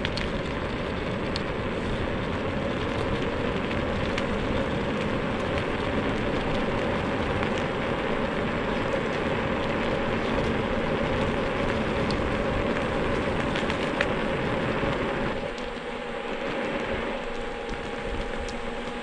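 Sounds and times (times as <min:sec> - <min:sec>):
faint steady hum: 0:00.0 - 0:19.0
tyre and road rumble: 0:00.0 - 0:19.0.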